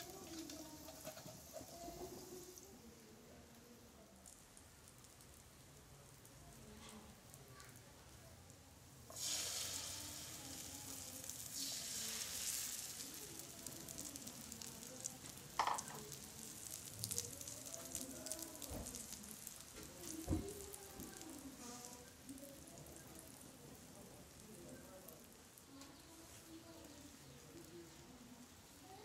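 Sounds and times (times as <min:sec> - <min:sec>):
egg sizzling in hot oil: 0:00.0 - 0:29.0.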